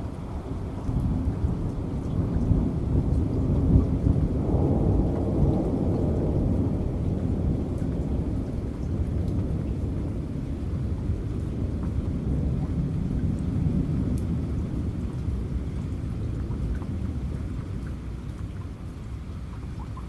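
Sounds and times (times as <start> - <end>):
thunder rumbling: 0.0 - 18.4
steady rain: 0.0 - 20.0.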